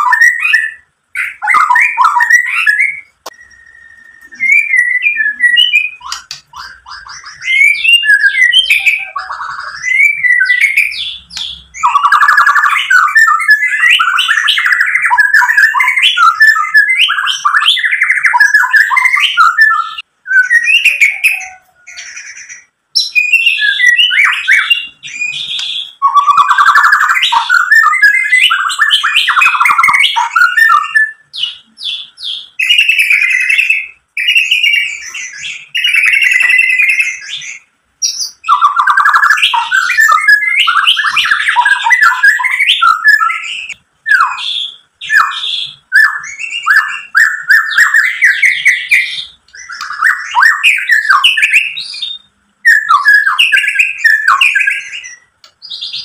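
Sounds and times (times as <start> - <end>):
songbird singing varied whistles: 0.0 - 56.0.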